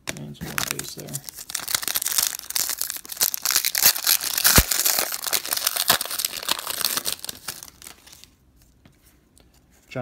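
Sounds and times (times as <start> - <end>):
plastic wrapper crinkling and tearing: 0.0 - 8.3.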